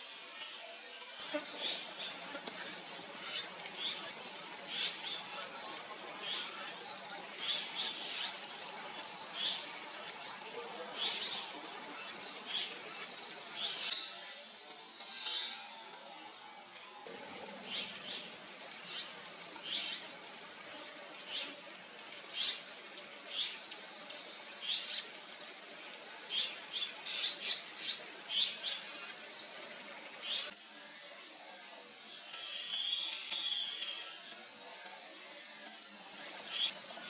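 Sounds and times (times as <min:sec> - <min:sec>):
high-pitched insect trill: 0:00.0 - 0:37.0.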